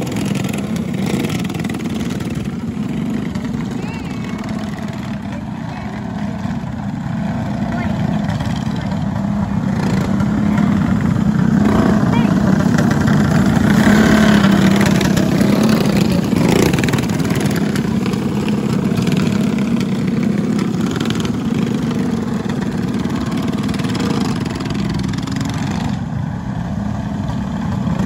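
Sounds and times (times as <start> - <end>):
go-kart engines racing: 0.0 - 28.0.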